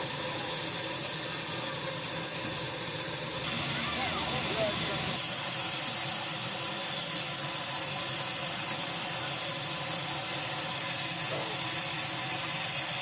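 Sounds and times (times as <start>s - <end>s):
high-pitched steam hiss: 0.0s - 13.0s.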